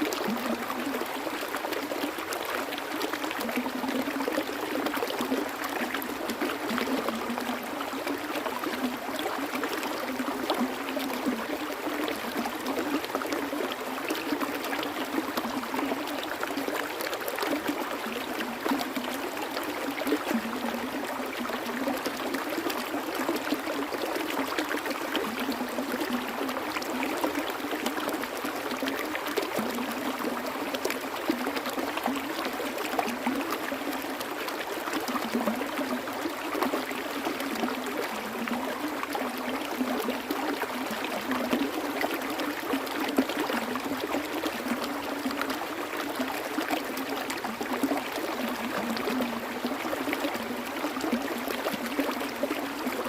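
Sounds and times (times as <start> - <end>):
stream babbling and splashing: 0.0 - 53.0.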